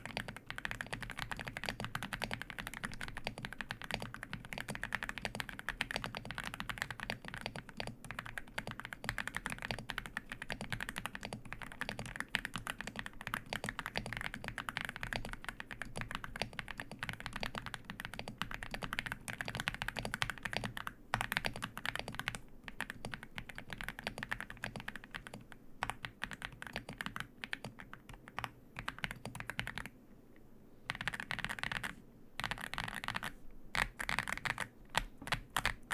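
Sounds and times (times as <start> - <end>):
typing on mechanical keyboard: 0.0 - 29.9, 30.9 - 35.9.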